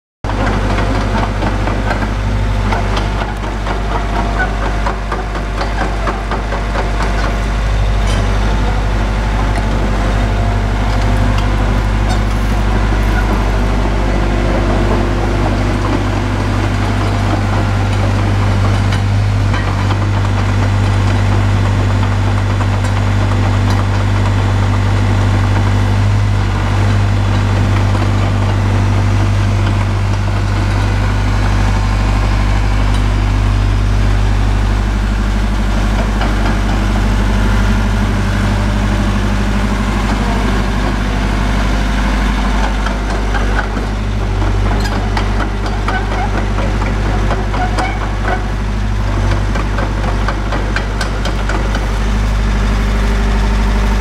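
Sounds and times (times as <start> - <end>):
drill rig engine humming: 0.3 - 54.0.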